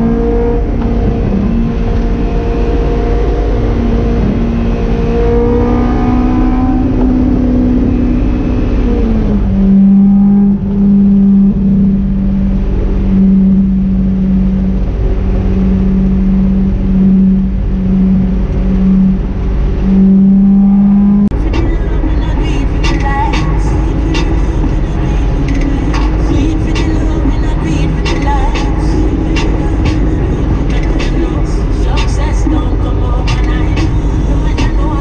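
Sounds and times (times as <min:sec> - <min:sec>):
car engine droning from inside cabin: 0:00.0 - 0:35.0.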